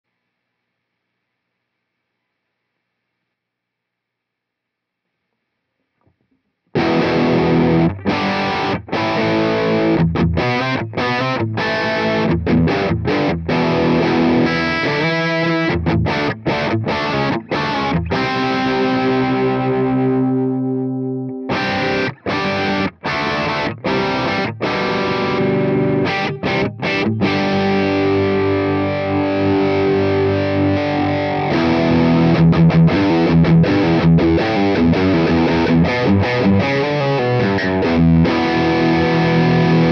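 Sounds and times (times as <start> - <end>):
distorted electric guitar chords: 6.7 - 39.9.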